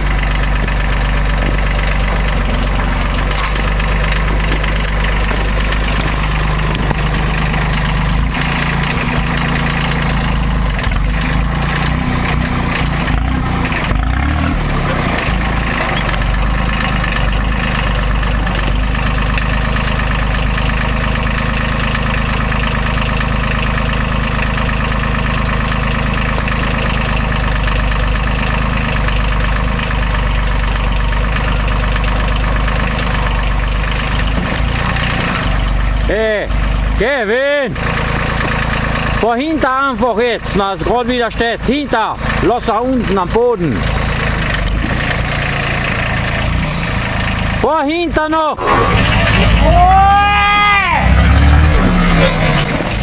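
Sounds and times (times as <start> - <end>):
irregular clunks: 0.0 - 37.0, 37.8 - 39.4, 40.8 - 49.8, 51.0 - 53.0
diesel engine idling: 0.0 - 53.0.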